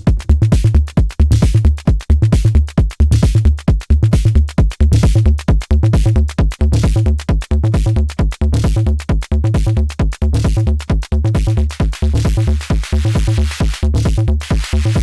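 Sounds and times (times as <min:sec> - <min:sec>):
drum machine kick: 0:00.0 - 0:15.0.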